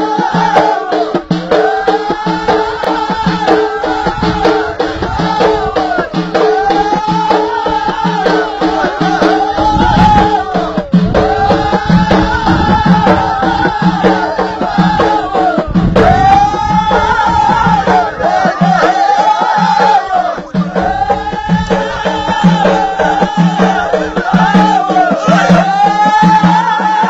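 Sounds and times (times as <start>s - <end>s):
frame drums beating: 0.0s - 27.0s
voices singing in chorus: 0.0s - 27.0s.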